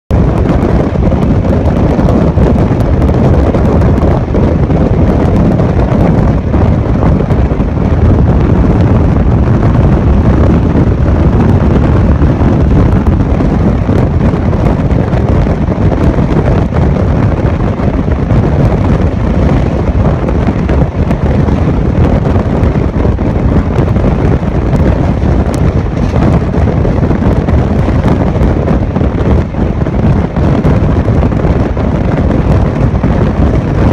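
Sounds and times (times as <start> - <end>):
wind rush on microphone: 0.0 - 33.9
train rumbling at high speed: 0.1 - 33.9.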